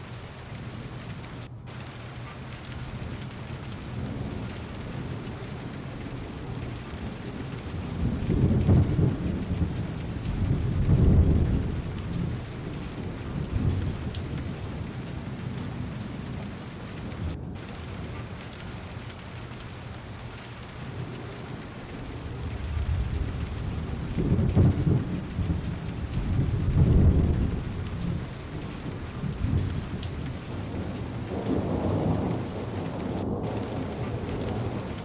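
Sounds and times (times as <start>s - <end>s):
heavy rain on a car: 0.0s - 35.0s
thunder rumbling: 0.0s - 35.0s.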